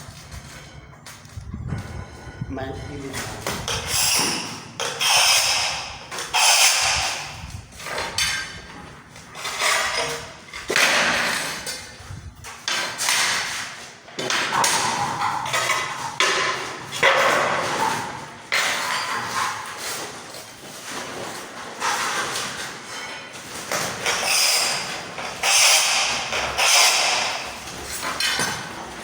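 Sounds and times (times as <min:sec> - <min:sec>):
scraping on ceramic tile: 0:00.0 - 0:29.0.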